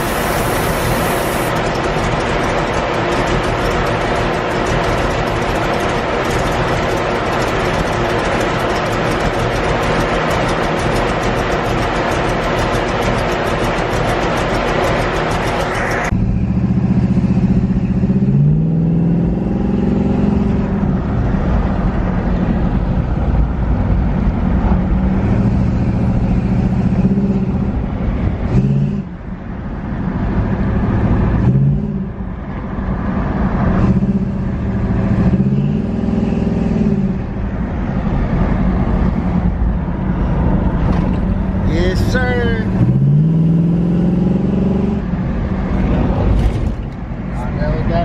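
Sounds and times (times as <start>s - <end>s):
car engine revving: 0.0s - 29.2s, 30.2s - 48.0s.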